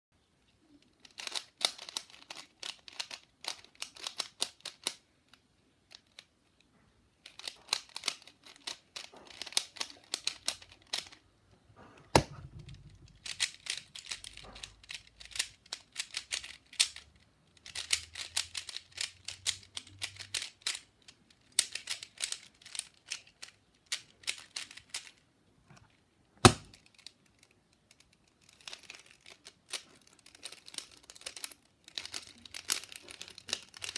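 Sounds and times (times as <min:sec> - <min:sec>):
puzzle cube layers clicking: 0:00.6 - 0:11.2, 0:12.1 - 0:25.2, 0:26.4 - 0:33.9.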